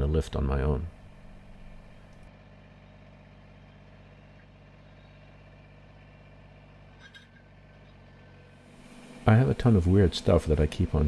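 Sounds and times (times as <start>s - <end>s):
diesel tractor engine idling: 0.8s - 11.0s.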